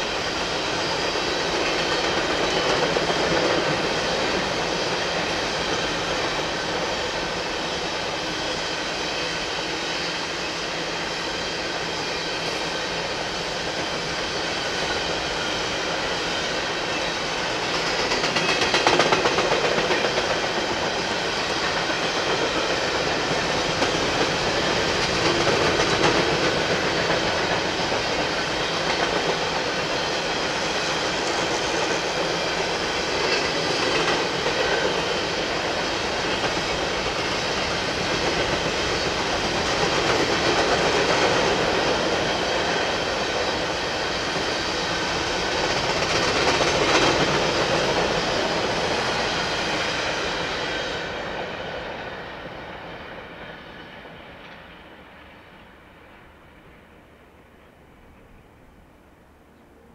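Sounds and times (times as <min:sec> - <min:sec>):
train wheels running on rails: 0:00.0 - 0:59.7.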